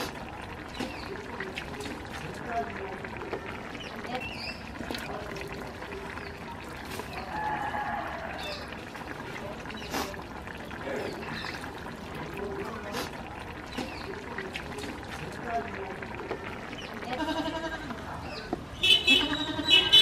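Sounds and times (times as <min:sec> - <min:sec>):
pot boiling and bubbling: 0:00.0 - 0:20.0.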